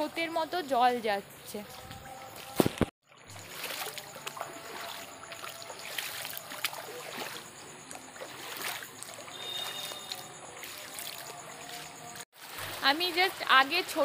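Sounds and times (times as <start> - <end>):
footsteps splashing through water: 1.7 - 13.5.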